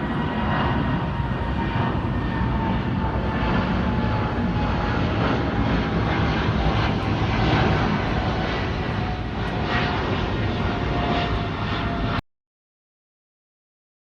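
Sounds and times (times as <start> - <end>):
jet engines running: 0.0 - 12.2.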